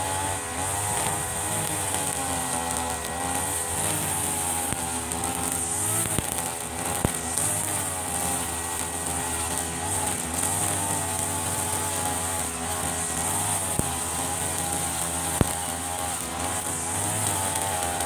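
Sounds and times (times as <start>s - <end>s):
brush cutter engines cutting grass: 0.0s - 18.0s.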